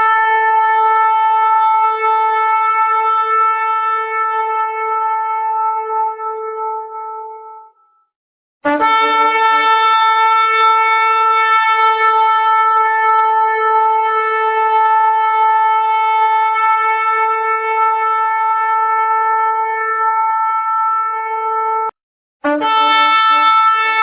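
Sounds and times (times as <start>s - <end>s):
shofar long held note: 0.0s - 8.0s, 8.6s - 24.0s.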